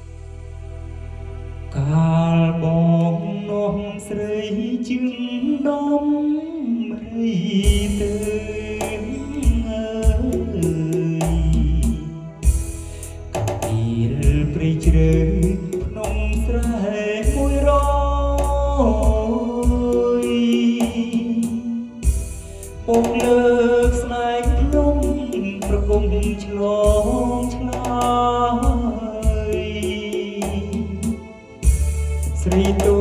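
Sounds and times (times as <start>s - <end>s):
heavy deep bass: 0.0s - 4.8s, 7.0s - 33.0s
backing track music: 0.0s - 33.0s
man singing karaoke: 1.7s - 33.0s.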